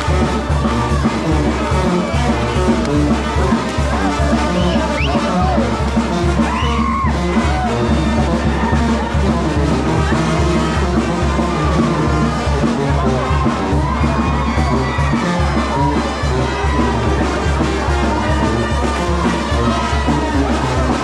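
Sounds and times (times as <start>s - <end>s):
crowd voices: 0.0s - 21.0s
loud music with drums: 0.0s - 21.0s.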